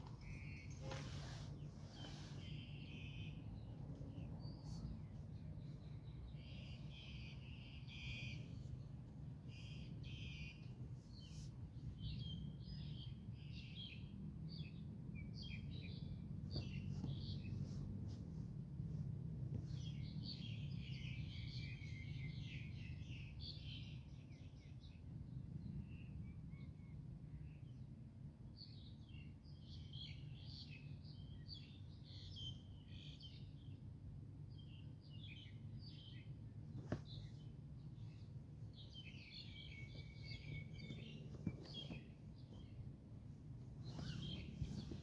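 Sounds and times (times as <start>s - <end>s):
small birds chirping: 0.0s - 27.9s, 28.6s - 45.0s.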